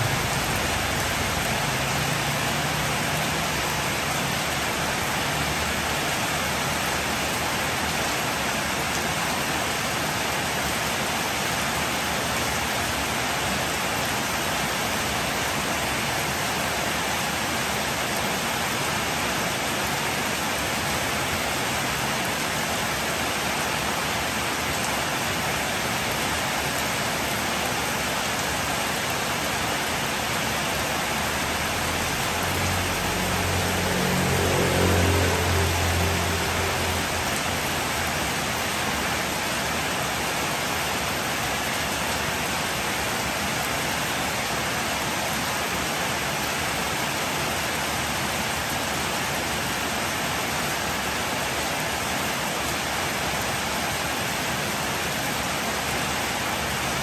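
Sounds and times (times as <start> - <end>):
heavy rain on wet street: 0.0 - 57.0.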